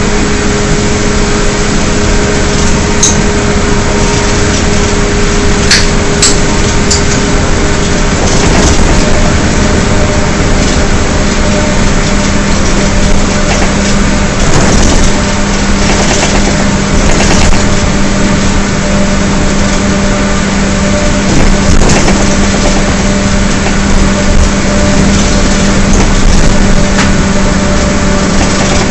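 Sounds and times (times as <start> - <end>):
bus engine howl: 0.0 - 28.9.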